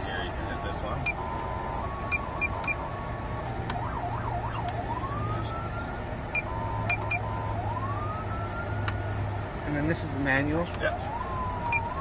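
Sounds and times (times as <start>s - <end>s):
police siren: 0.1s - 12.0s.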